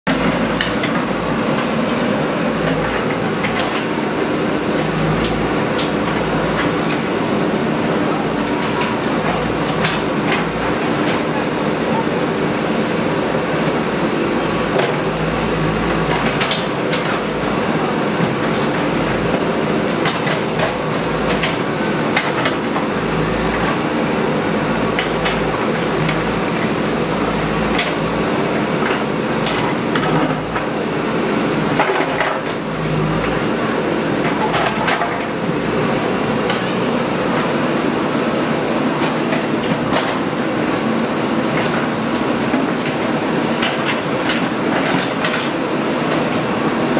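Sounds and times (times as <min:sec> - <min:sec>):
heavy diesel machine running: 0:00.1 - 0:46.9.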